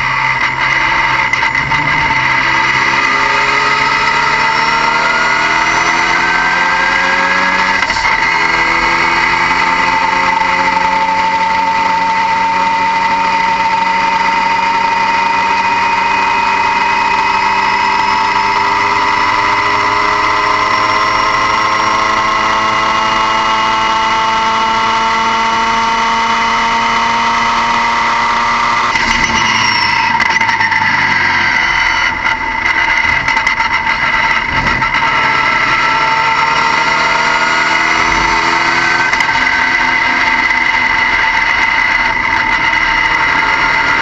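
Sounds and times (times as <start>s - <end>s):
car engine whining: 0.0s - 44.0s.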